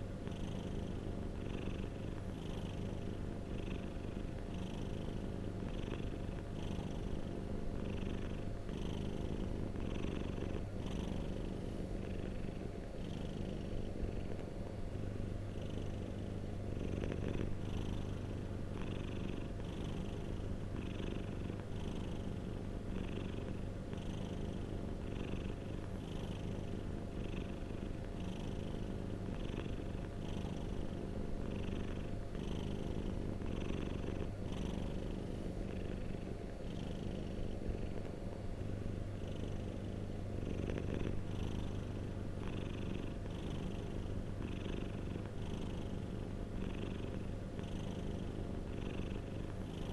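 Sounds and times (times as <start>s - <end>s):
cat purring: 0.0s - 49.9s.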